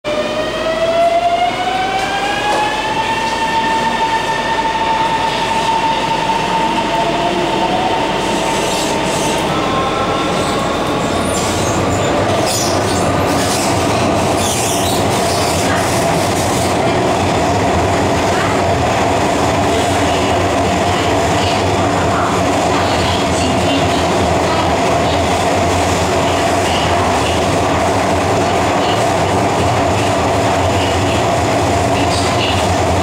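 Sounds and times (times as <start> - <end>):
train inverter whine: 0.1 - 33.0.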